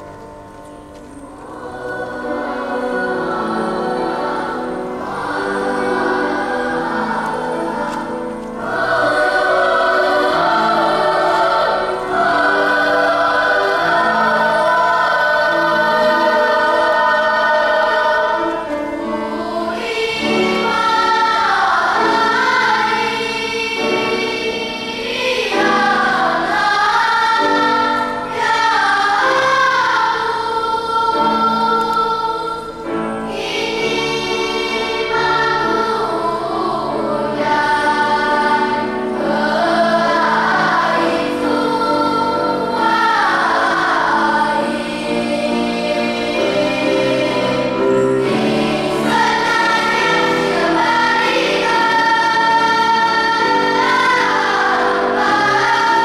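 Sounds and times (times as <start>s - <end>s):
children's choir singing: 0.0s - 56.0s.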